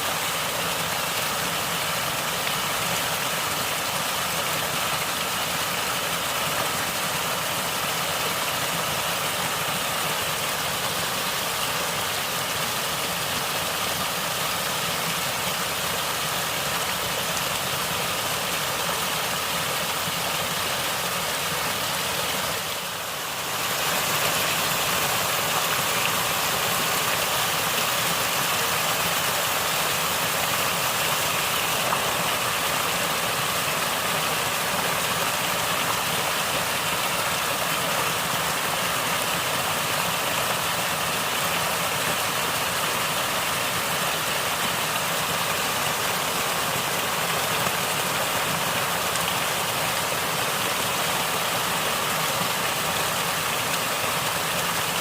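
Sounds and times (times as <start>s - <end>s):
stream water gurgling: 0.0s - 55.0s.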